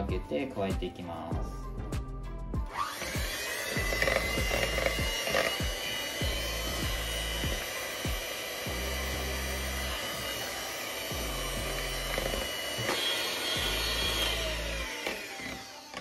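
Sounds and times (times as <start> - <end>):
electric hand mixer whining: 2.6 - 16.0.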